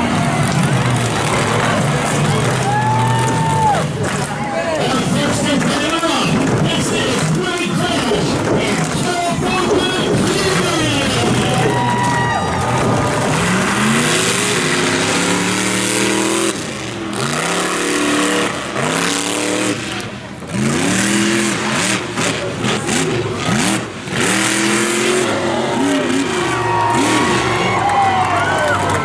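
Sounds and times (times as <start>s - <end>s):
monster truck engine revving: 0.0s - 29.0s.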